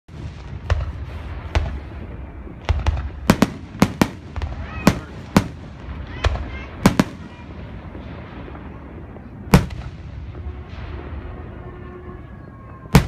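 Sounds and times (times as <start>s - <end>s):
low rumble: 0.1s - 13.0s.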